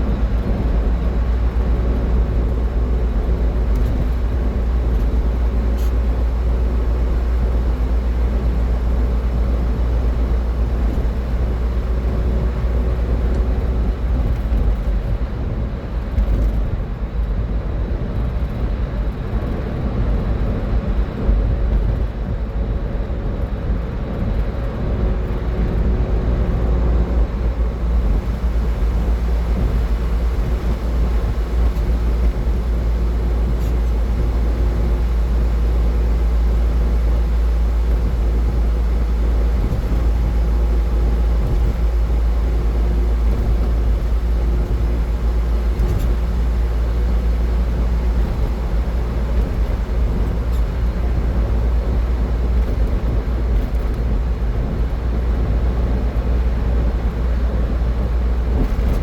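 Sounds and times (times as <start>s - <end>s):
car driving at highway speed: 0.0s - 59.0s.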